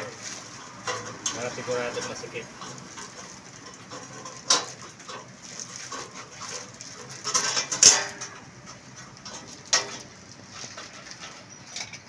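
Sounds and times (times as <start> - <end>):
metallic clatter: 0.0 - 12.0.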